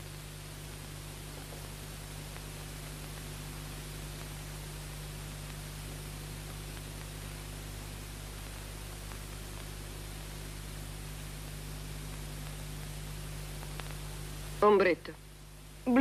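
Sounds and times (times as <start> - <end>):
film soundtrack hiss: 0.0 - 16.0.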